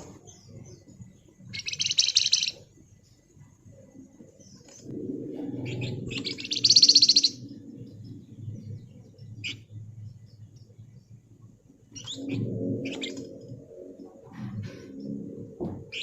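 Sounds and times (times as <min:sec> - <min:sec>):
songbird chirps and trill: 0:00.0 - 0:16.0.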